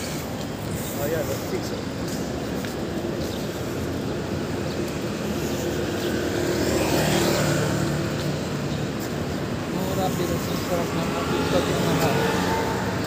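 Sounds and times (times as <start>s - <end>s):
passing cars: 0.0s - 13.0s.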